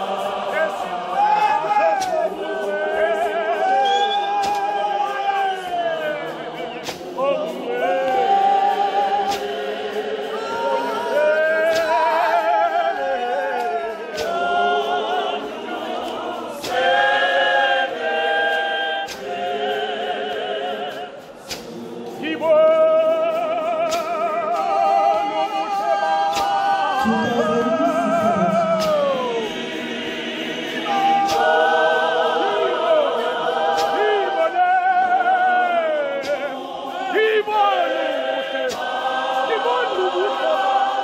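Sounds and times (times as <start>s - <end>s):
church choir singing in parts: 0.0s - 41.0s.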